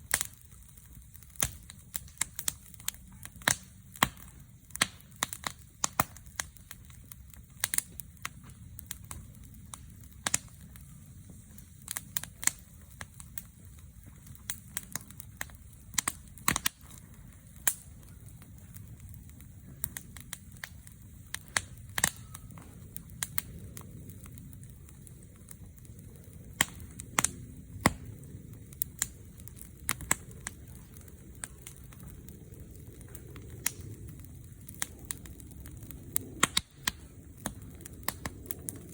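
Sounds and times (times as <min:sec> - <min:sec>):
burning wood popping: 0:00.0 - 0:38.9
campfire crackling: 0:00.0 - 0:38.9.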